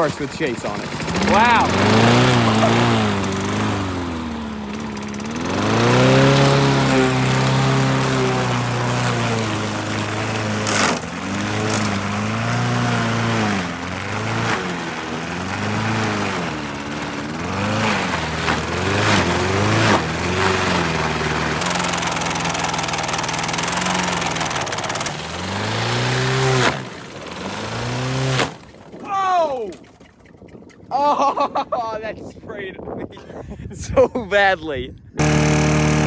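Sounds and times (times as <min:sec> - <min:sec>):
lawn mower engine revving: 0:00.0 - 0:31.9, 0:35.2 - 0:36.0.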